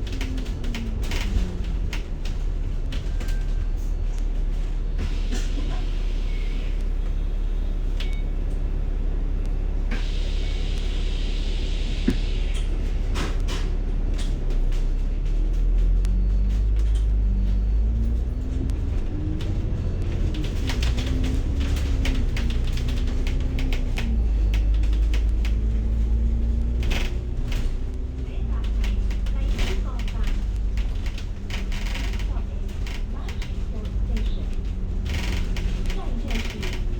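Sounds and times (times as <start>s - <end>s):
rattles and clicks: 0.0s - 5.7s, 12.0s - 36.9s
bus engine rumble: 0.0s - 36.9s
engine and gearbox whine: 0.0s - 36.9s.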